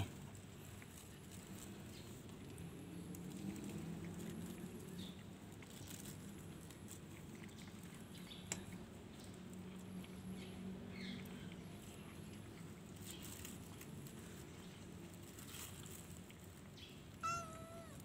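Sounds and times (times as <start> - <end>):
cat eating crunching: 0.0 - 18.0.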